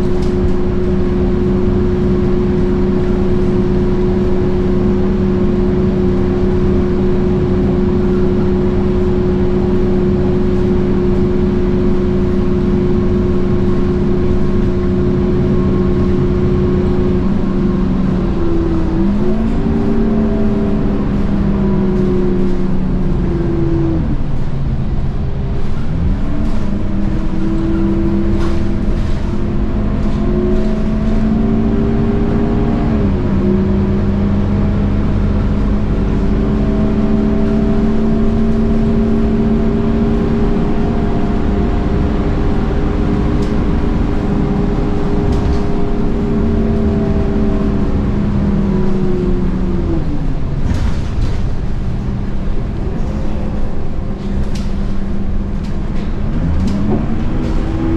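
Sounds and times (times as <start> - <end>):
bus engine revving with gear shifts: 0.0 - 57.9.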